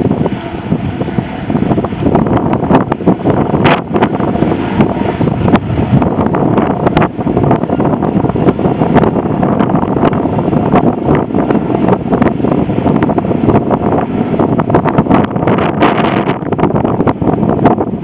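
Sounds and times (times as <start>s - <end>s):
jet engines roaring: 0.0s - 18.0s
wind buffeting the microphone: 0.0s - 18.0s.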